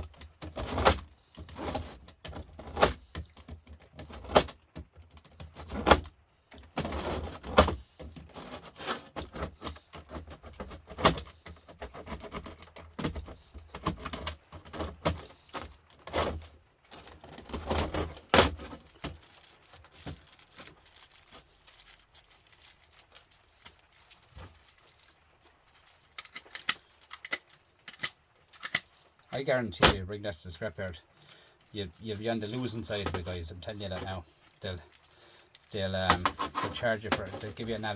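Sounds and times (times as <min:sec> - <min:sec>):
scrap metal clinking: 0:00.0 - 0:04.5, 0:05.2 - 0:30.0, 0:30.9 - 0:37.9.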